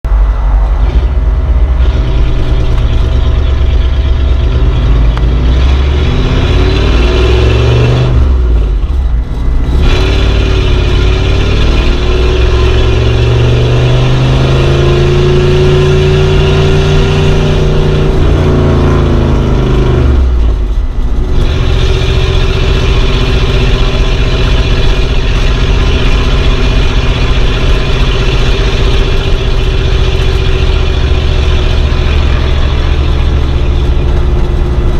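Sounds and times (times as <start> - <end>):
old car engine running: 0.1 - 34.9.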